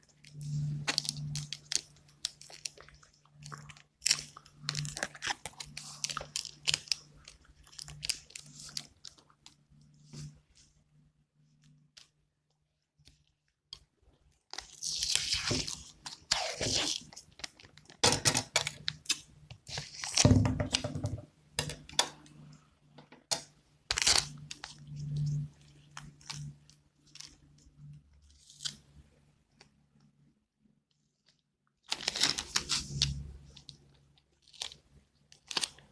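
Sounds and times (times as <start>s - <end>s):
plastic straws crinkling and clicking: 0.0s - 10.7s, 13.0s - 21.0s, 23.1s - 28.9s, 30.9s - 35.9s.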